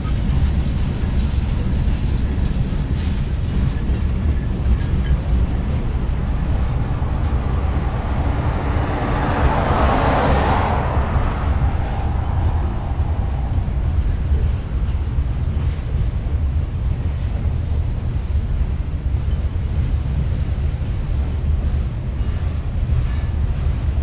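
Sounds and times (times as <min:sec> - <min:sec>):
freight train rumbling: 0:00.0 - 0:24.0
rushing noise: 0:00.0 - 0:24.0.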